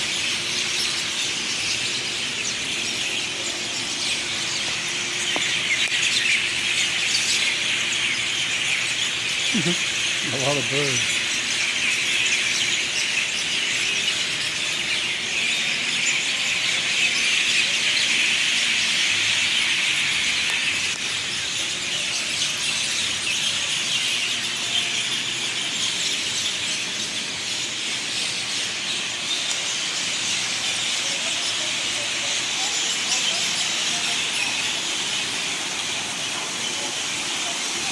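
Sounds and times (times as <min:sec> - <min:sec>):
birds chirping chorus: 0:00.0 - 0:37.9.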